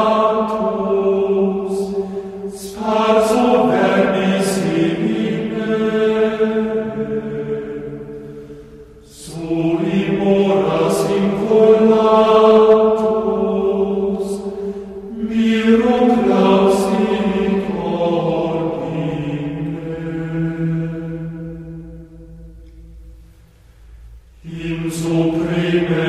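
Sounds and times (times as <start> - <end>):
voices chanting long held notes: 0.0 - 22.8, 24.4 - 26.0.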